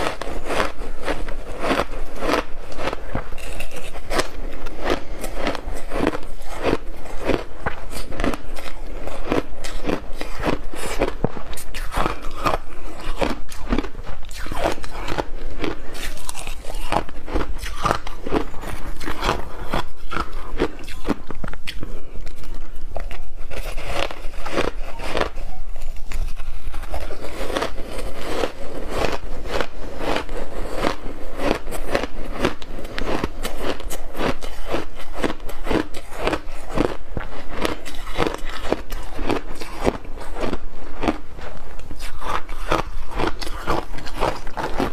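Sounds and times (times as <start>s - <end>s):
ice crunching between teeth: 0.0s - 44.9s.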